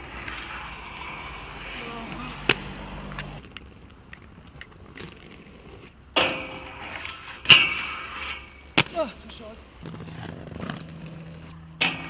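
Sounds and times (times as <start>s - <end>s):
inline skates hitting ground: 0.0s - 12.0s
skate wheels rolling: 0.0s - 12.0s.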